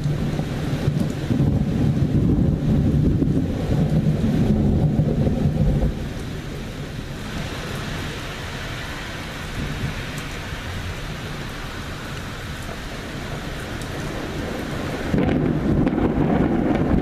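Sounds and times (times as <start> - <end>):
steady rain hiss: 0.0 - 17.0
thunder rumbling: 0.0 - 17.0.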